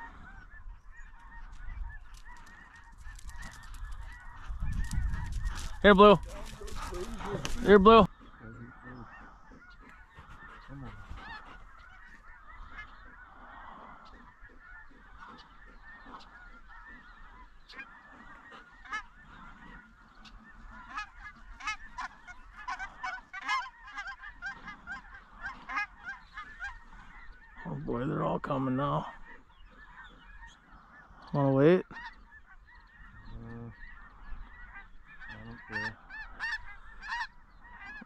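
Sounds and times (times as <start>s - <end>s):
geese honking: 0.0s - 38.0s.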